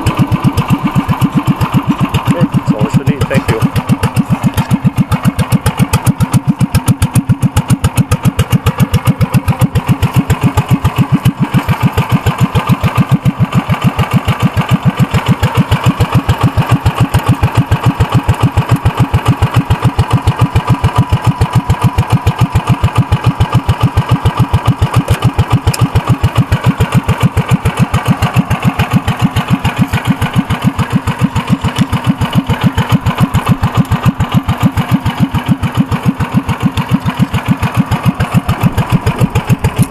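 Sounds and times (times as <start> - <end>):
engine idling through straight pipe: 0.0 - 39.9.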